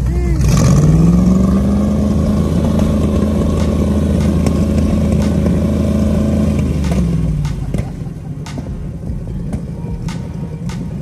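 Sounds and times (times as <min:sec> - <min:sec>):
car engine running loudly: 0:00.0 - 0:11.0.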